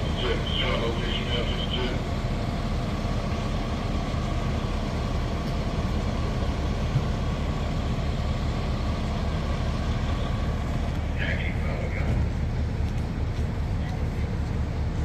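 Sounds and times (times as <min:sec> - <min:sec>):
diesel engines idling: 0:00.0 - 0:15.0.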